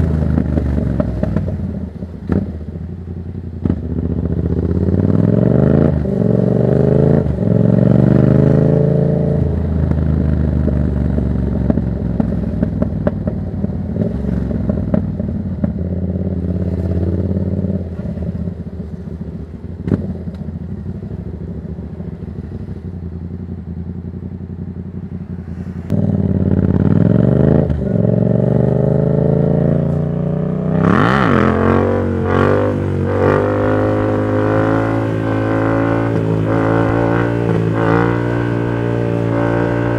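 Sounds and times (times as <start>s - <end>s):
exhaust crackling on overrun: 0.0s - 39.9s
motorcycle engine accelerating: 0.0s - 39.9s.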